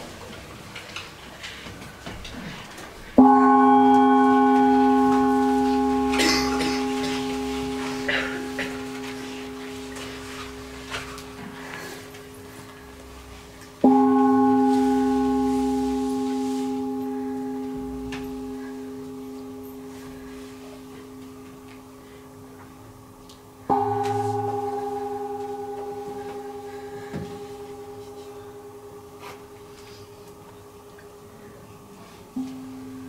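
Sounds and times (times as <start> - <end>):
singing bowl ringing: 3.2 - 33.0.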